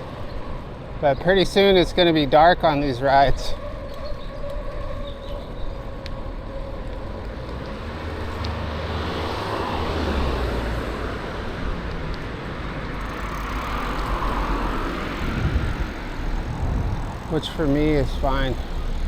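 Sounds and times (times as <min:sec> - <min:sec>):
car passing: 0:00.0 - 0:19.0.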